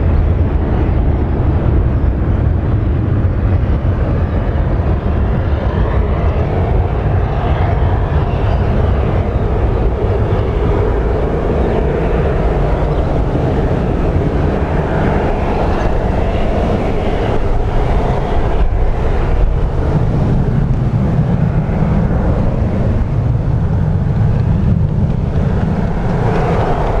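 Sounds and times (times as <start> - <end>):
jet engine rumble: 0.0 - 27.0.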